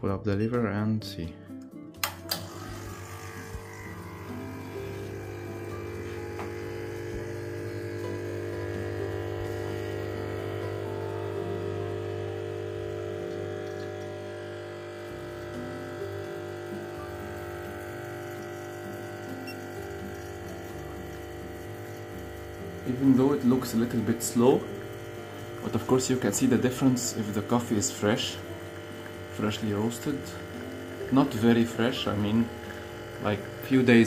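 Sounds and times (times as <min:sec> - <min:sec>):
espresso machine pump humming: 0:02.0 - 0:34.0.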